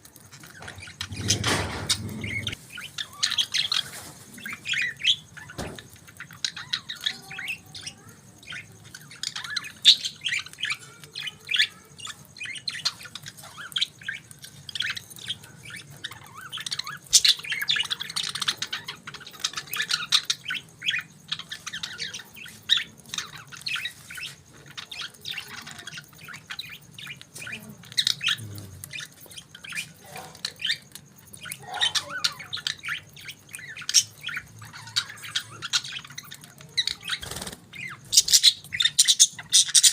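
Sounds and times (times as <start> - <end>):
budgerigars chirping and warbling: 0.1 - 39.9.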